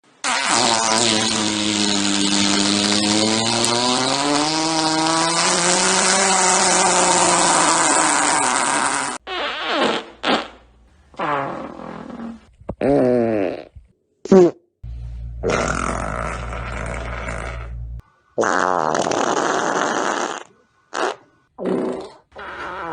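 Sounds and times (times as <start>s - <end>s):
fart sound effect: 0.2s - 14.6s, 15.4s - 17.8s, 18.4s - 22.9s.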